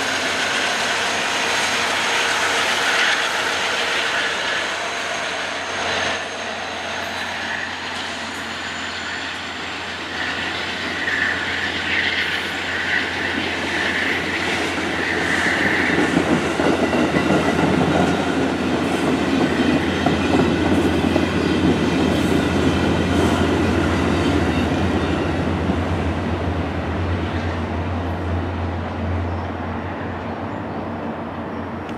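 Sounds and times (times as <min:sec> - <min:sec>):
train wheels rumbling: 0:00.0 - 0:31.9.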